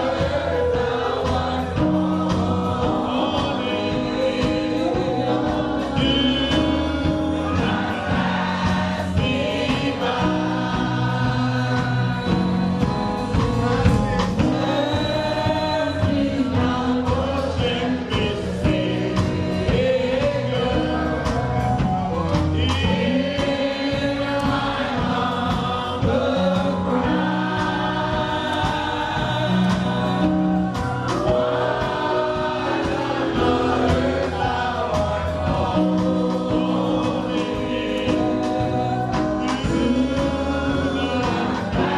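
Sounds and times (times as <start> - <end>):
bass and keyboard accompaniment: 0.0 - 41.9
choir singing gospel: 0.0 - 41.9.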